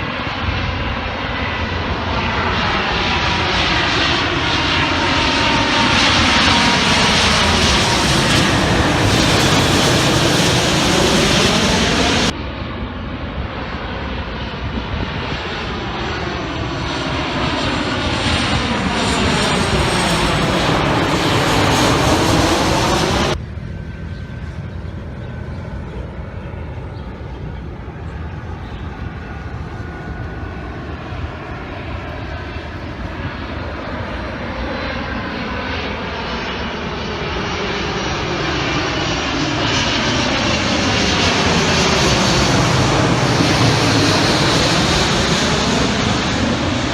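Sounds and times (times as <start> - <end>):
aircraft engine drone: 0.0 - 46.9.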